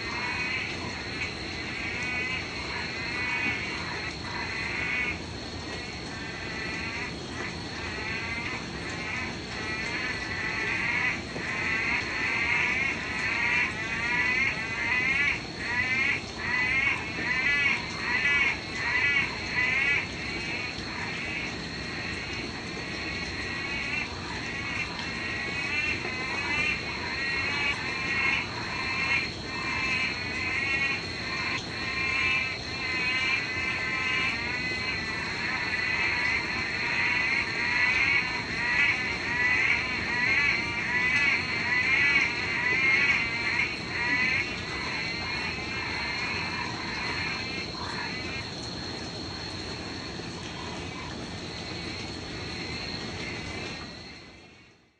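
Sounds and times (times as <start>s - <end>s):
frogs calling: 0.0s - 54.9s.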